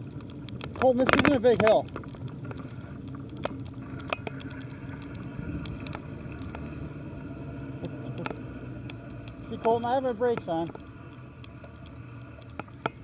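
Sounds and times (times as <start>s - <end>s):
bicycle tyres rolling on pavement: 0.0s - 13.0s
bike clicks and rattles: 0.0s - 13.0s.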